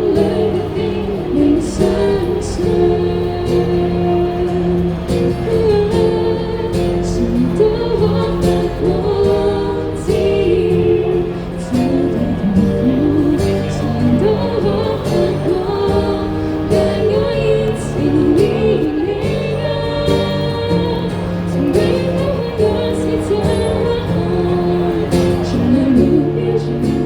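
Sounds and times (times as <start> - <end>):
person singing lead melody: 0.0 - 27.0
sustained instrument chords: 0.0 - 27.0.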